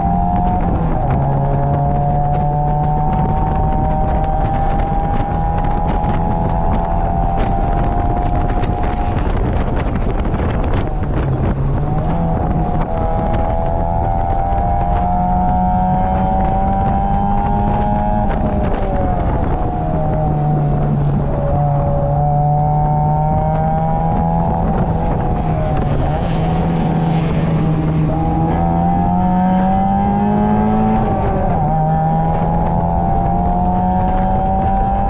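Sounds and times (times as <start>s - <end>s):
car engine revving at speed: 0.0s - 35.0s
rush of noise: 0.0s - 35.0s.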